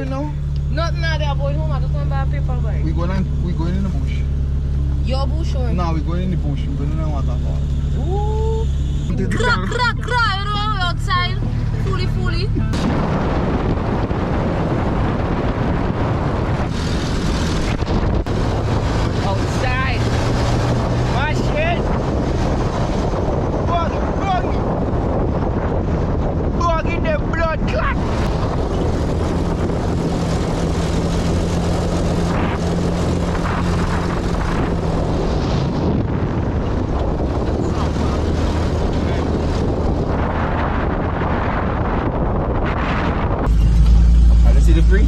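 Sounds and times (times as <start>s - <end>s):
car engine road and wind rumble: 0.0s - 45.0s.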